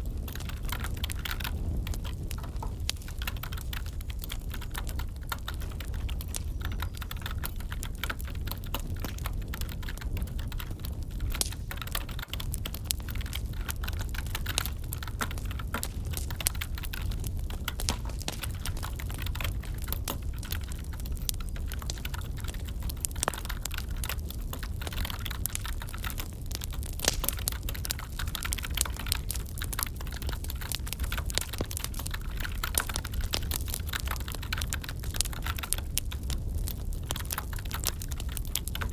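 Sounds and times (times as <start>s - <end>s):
crackling wood fire: 0.0s - 38.9s
typing on keyboard: 0.2s - 38.9s.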